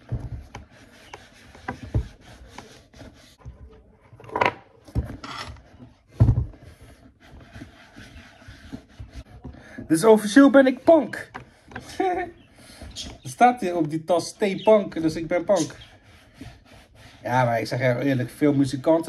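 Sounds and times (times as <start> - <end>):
sponge scrubbing leather boot: 0.0 - 3.7, 5.8 - 11.3, 11.9 - 19.0.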